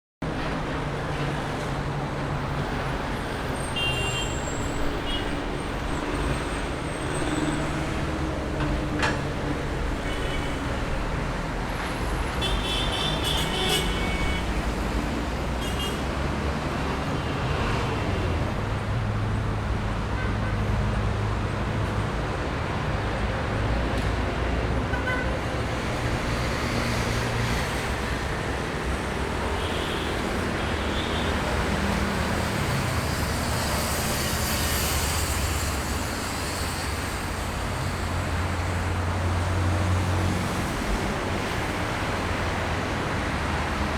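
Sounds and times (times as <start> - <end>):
road traffic noise: 0.2 - 43.9.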